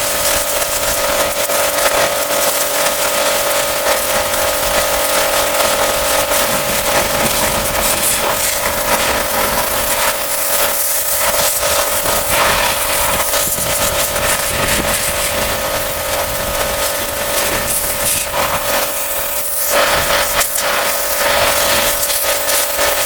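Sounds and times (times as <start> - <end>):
cleaning machine motor humming: 0.0 - 23.0.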